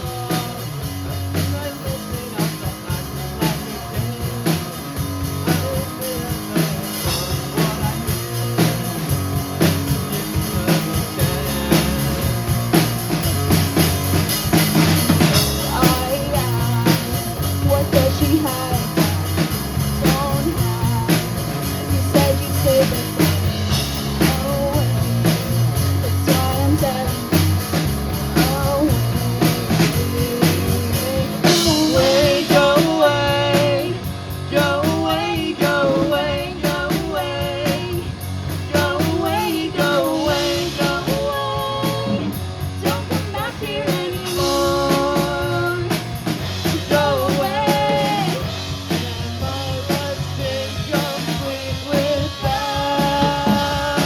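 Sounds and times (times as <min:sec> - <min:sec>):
person singing: 0:00.0 - 0:54.0
rock band playing: 0:00.0 - 0:54.0.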